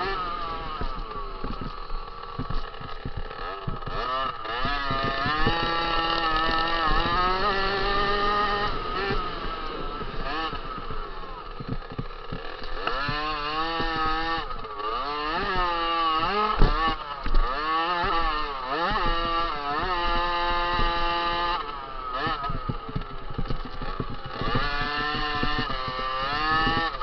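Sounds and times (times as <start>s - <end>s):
sharp thumps: 0.0s - 27.0s
two-stroke motocross engine racing: 0.0s - 27.0s.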